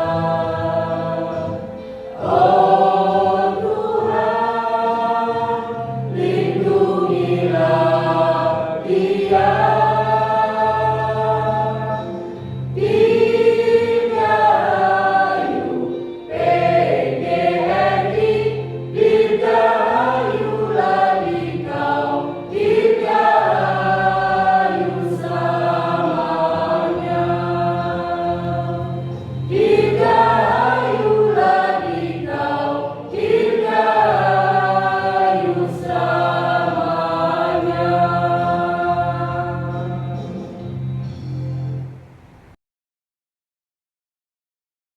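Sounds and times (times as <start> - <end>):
choir singing: 0.0 - 40.5.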